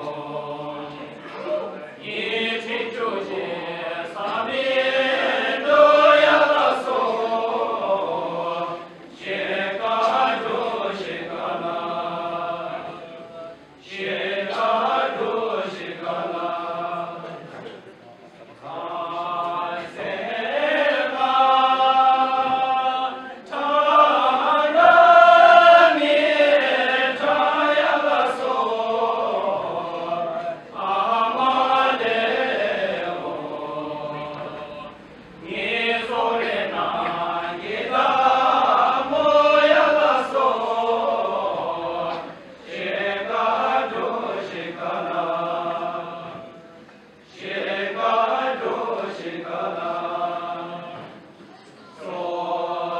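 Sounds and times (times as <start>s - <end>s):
men singing unaccompanied: 0.0s - 1.3s, 2.0s - 17.4s, 18.6s - 46.7s, 47.3s - 51.2s, 52.0s - 52.9s.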